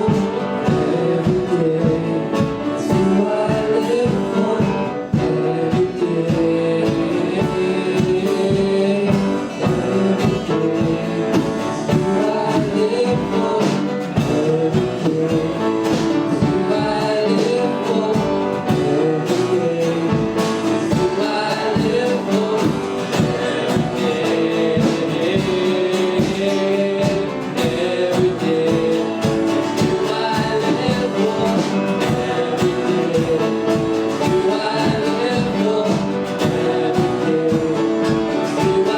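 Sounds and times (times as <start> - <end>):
band with guitar and beat: 0.0 - 38.9
person singing worship song: 0.0 - 38.9.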